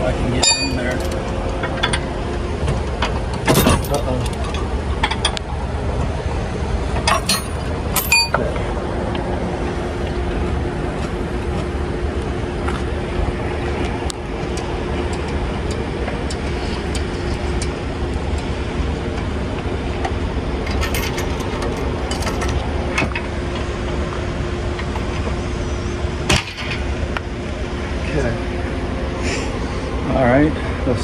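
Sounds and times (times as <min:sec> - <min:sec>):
motor hum with low rumble: 0:00.0 - 0:31.0.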